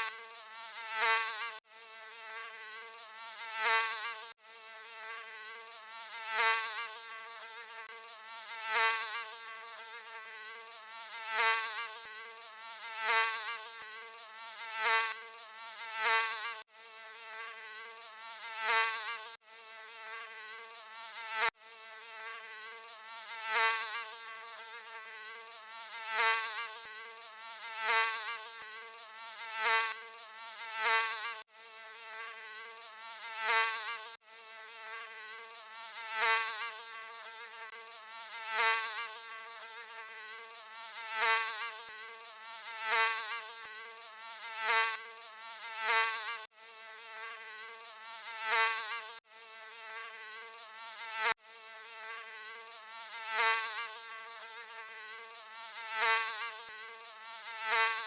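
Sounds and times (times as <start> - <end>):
mosquito wing buzz: 0.0 - 58.0.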